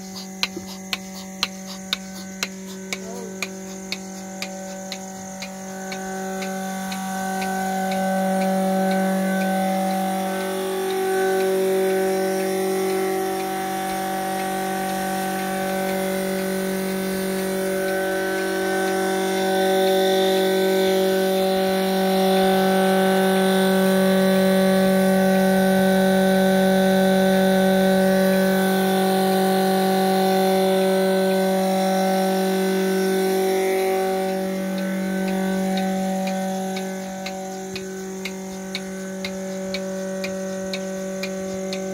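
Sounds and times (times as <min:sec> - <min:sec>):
vacuum pump humming: 0:00.0 - 0:41.9.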